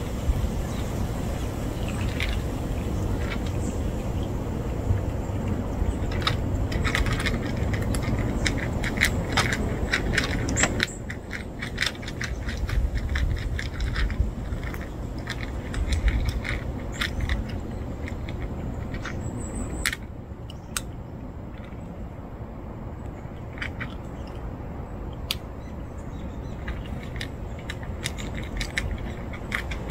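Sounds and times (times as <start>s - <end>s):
cats crunching dry kibble: 0.7s - 21.9s, 23.2s - 25.5s, 26.2s - 29.9s.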